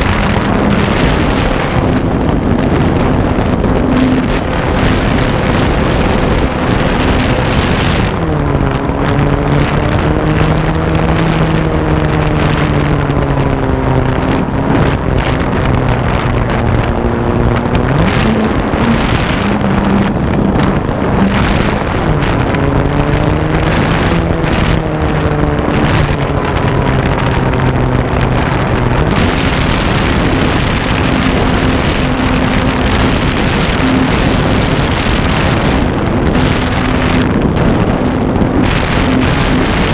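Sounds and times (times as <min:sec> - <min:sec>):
electric motor and propeller: 0:00.0 - 0:39.9
wind noise on microphone: 0:00.0 - 0:39.9.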